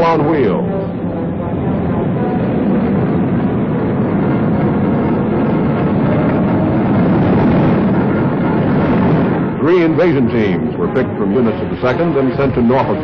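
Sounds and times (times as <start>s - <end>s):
tank engines and tracks rumbling: 0.0s - 13.0s.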